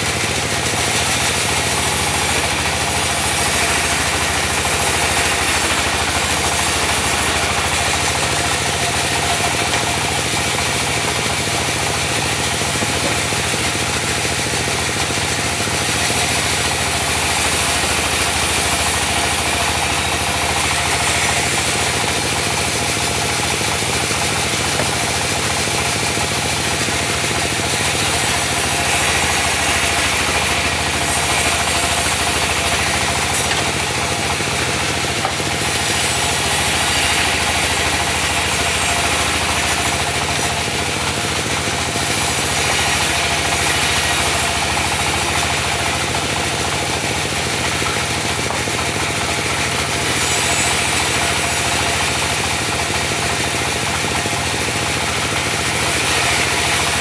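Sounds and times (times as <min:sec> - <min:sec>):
saw blade cutting wood: 0:00.0 - 0:57.0.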